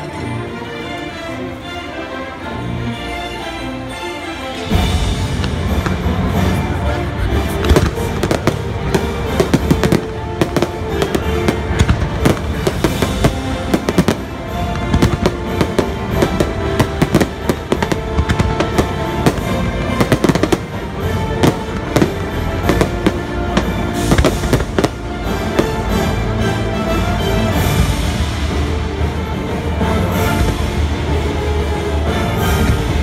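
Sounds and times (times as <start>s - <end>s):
show music: 0.0s - 33.0s
fireworks bangs and crackles: 4.7s - 33.0s.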